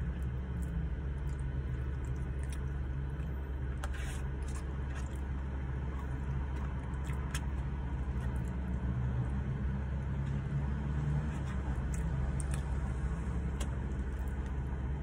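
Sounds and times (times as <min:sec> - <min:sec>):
chewing: 0:00.0 - 0:09.4, 0:11.3 - 0:14.8
car idling inside cabin: 0:00.0 - 0:10.1, 0:11.5 - 0:15.0.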